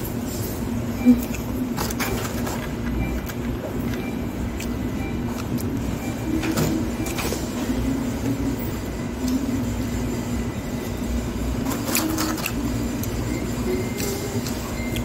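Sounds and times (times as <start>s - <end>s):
restaurant background hum: 0.0s - 15.0s.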